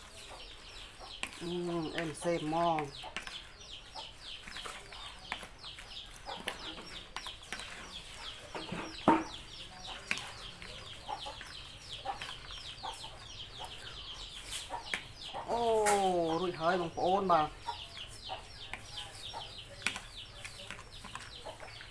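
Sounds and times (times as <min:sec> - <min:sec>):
salad leaves rustling in bowl: 0:00.0 - 0:13.2, 0:14.2 - 0:21.9
chicks cheeping: 0:00.0 - 0:21.9.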